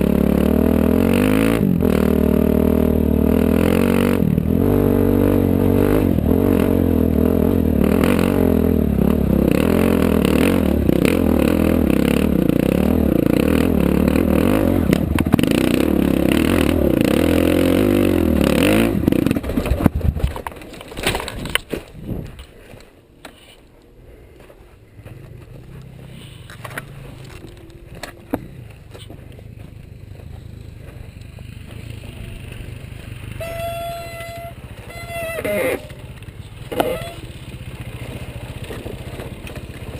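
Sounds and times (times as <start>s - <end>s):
off-road vehicle engine running hard: 0.0s - 20.6s, 24.0s - 39.9s.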